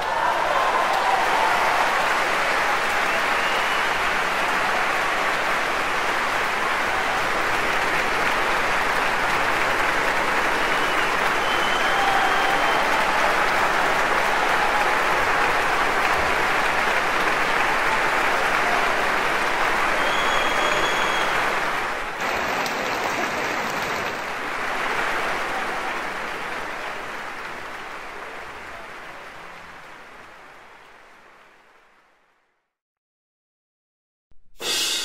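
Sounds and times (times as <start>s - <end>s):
audience applauding: 0.0s - 32.2s.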